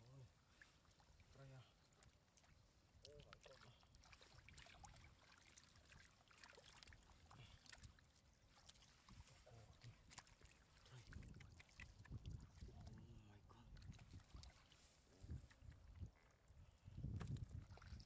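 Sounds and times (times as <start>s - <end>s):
small ticks of water: 0.0s - 18.0s
muddy water splashing: 0.4s - 13.0s, 13.6s - 16.4s, 17.1s - 18.0s.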